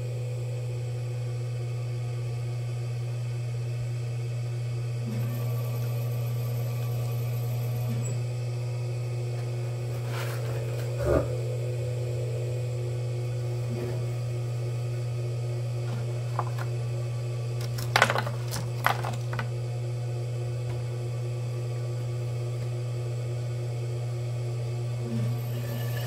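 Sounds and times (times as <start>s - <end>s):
potter's wheel motor humming: 0.0s - 26.0s.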